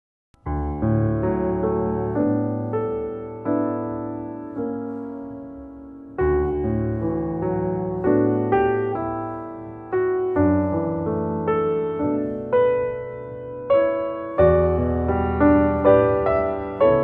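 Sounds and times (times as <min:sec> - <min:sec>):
gentle piano playing: 0:00.4 - 0:17.0.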